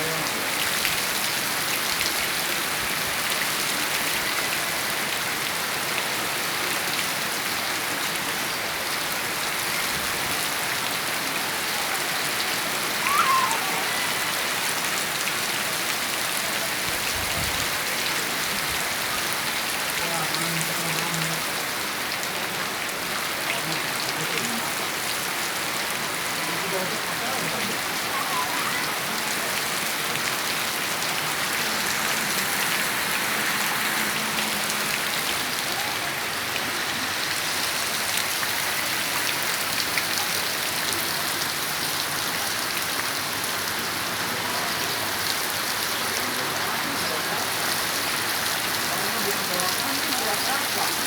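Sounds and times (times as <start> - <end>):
steady rain falling: 0.0 - 51.0.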